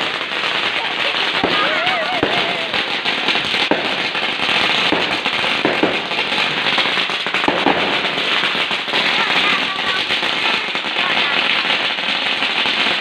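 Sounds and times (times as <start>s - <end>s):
firecrackers crackling: 0.0s - 13.0s
loud firecracker cracks: 0.0s - 13.0s.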